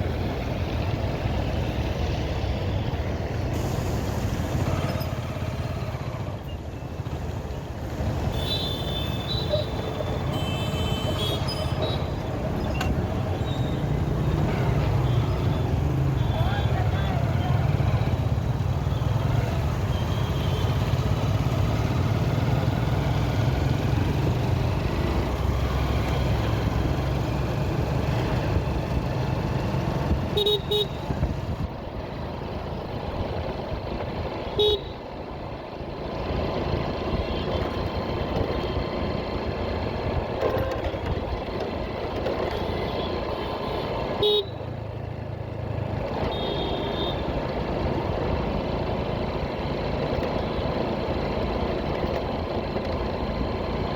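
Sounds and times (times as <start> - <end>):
motorcycle engine rumble: 0.0 - 53.9
road noise: 0.0 - 53.9.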